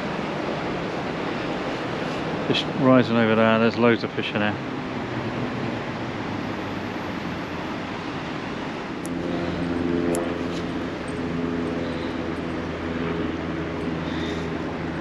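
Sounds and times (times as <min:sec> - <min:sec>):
engine humming: 0:00.0 - 0:15.0
outdoor background noise: 0:00.0 - 0:15.0.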